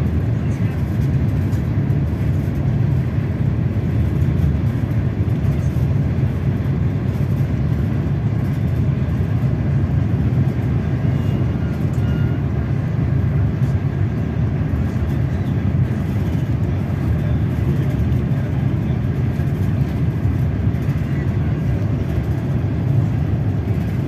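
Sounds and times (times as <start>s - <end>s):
train rumble from inside: 0.0s - 24.0s.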